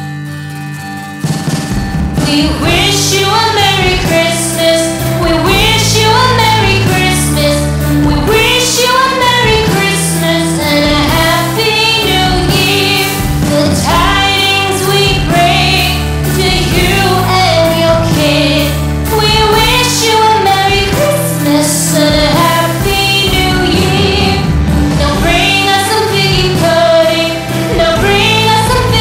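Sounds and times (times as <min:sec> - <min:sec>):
christmas song with singing: 0:02.2 - 0:29.0.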